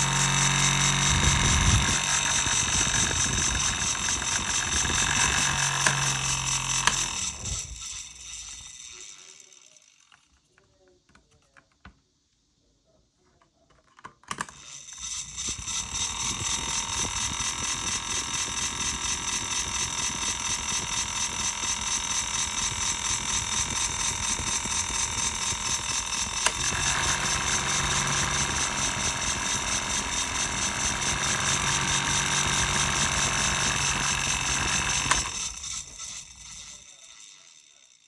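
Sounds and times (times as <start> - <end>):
electric fan whirring: 0.0 - 10.1, 14.3 - 38.0.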